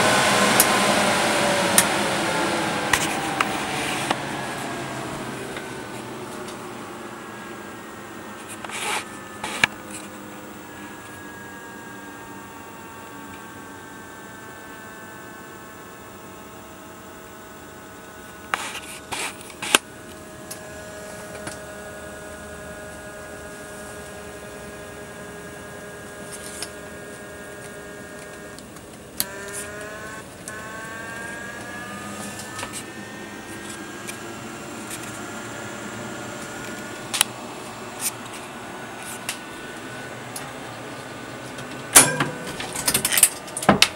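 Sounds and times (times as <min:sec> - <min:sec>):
electric fan motor whine: 0:00.0 - 0:43.9.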